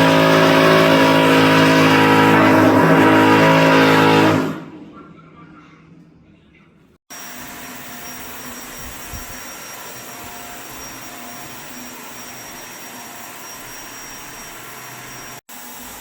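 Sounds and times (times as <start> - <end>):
jackhammer through ceiling: 0.0 - 4.4, 7.1 - 16.0.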